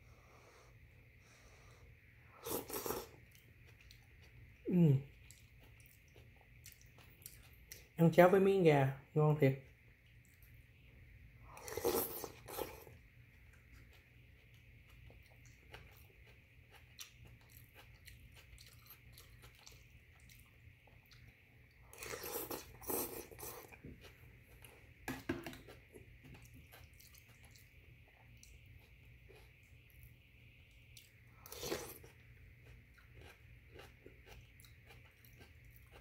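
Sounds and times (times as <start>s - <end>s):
person chewing: 2.3s - 8.0s, 11.5s - 30.1s, 30.8s - 36.0s.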